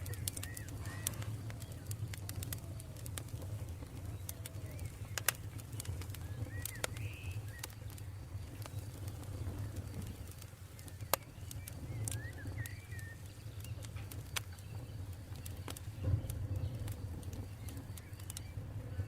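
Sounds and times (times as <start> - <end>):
bird chirp: 0.0 - 2.5, 3.6 - 19.0
campfire crackling: 0.0 - 19.0.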